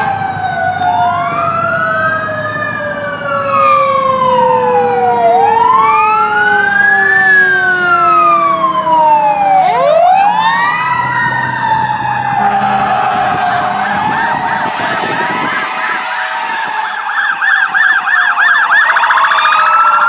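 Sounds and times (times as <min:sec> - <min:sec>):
electronic siren wails: 0:00.0 - 0:20.0
fast siren yelp: 0:00.0 - 0:20.0
mechanical siren tone: 0:00.0 - 0:20.0.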